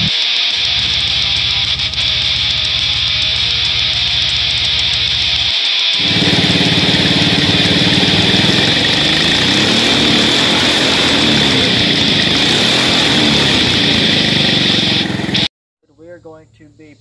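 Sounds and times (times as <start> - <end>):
vehicle engine idling: 0.0 - 15.5.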